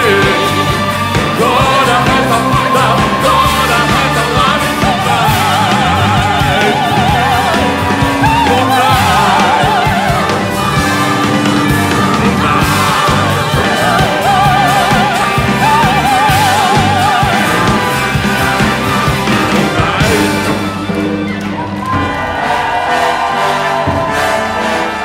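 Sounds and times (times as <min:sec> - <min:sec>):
band music with steady beat: 0:00.0 - 0:25.0
operatic singing with vibrato: 0:00.0 - 0:25.0.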